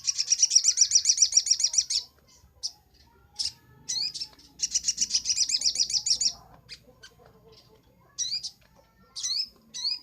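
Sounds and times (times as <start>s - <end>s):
bird singing rapid high trill: 0.0s - 10.0s.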